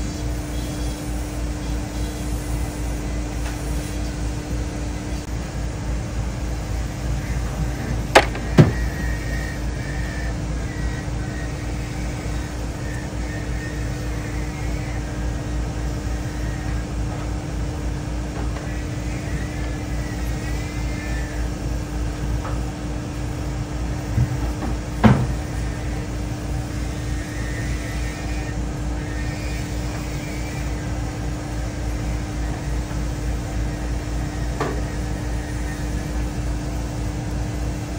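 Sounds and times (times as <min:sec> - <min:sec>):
low mechanical hum and rumble: 0:00.0 - 0:37.9.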